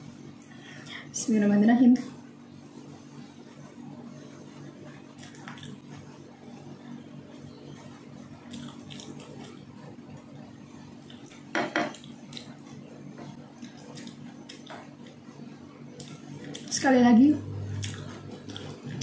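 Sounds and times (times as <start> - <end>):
low hum: 2.7 - 19.0.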